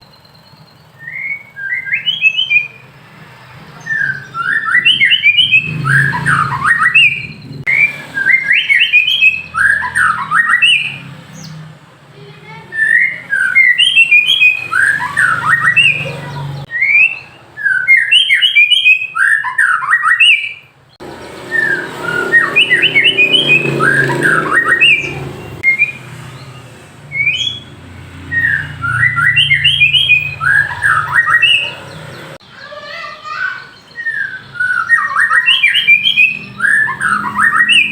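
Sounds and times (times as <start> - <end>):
bird singing whistled phrases: 0.0 - 2.9, 3.8 - 11.6, 12.7 - 20.7, 21.4 - 26.1, 27.1 - 37.9.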